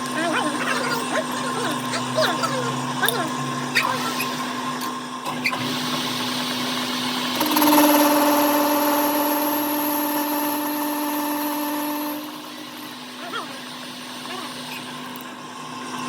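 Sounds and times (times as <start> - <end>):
machine motor humming: 0.0 - 16.0
steady whine: 0.0 - 16.0.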